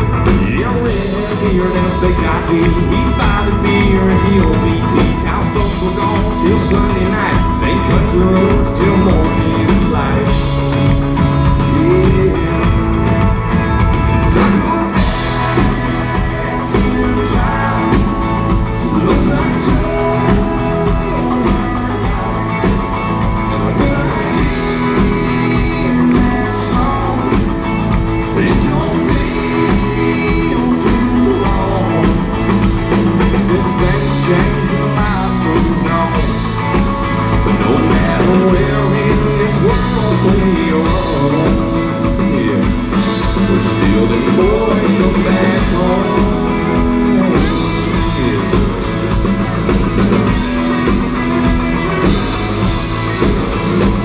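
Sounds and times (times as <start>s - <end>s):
live country-rock band: 0.0s - 54.0s
man singing: 0.0s - 54.0s.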